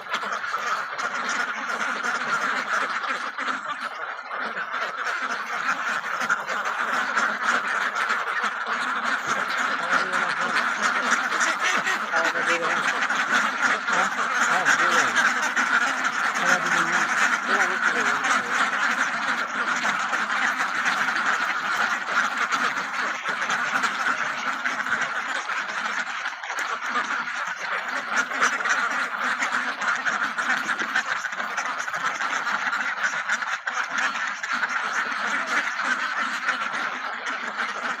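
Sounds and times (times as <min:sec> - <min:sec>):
ducks quacking: 0:00.0 - 0:38.0.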